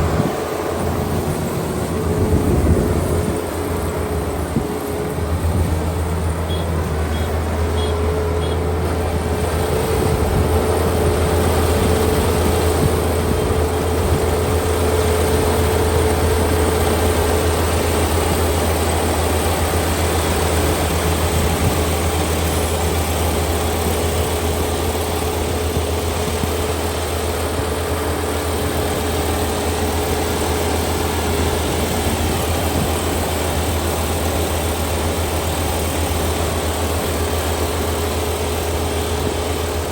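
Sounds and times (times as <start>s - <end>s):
combine harvester engine droning: 0.0s - 39.9s
steady whine: 0.0s - 39.9s.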